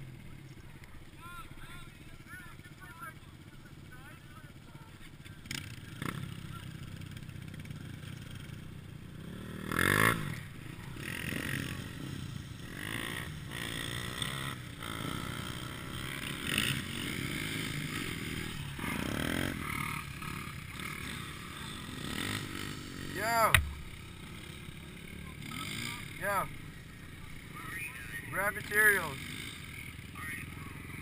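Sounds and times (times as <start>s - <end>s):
dirt bike engine idling and revving: 0.0s - 31.0s.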